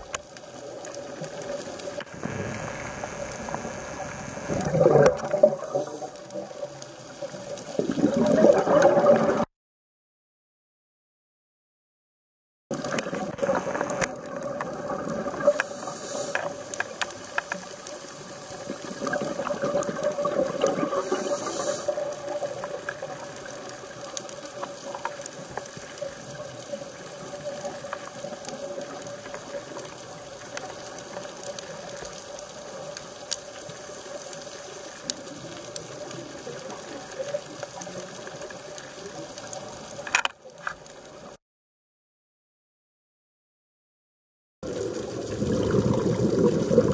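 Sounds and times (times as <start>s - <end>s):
underwater bubbling and rushing water: 0.0s - 9.5s, 12.7s - 41.4s, 44.6s - 46.9s.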